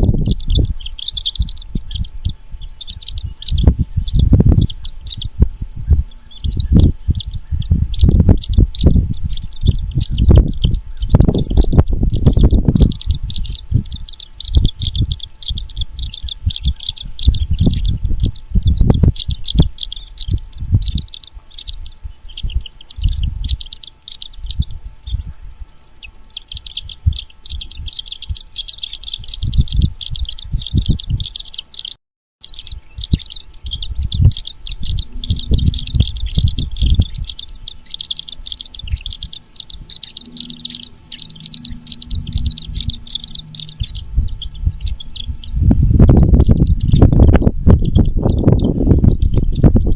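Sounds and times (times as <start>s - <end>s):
low thumps and rumbles: 0.0s - 25.7s, 26.4s - 31.4s, 32.6s - 49.9s
birds chirping: 0.0s - 49.9s.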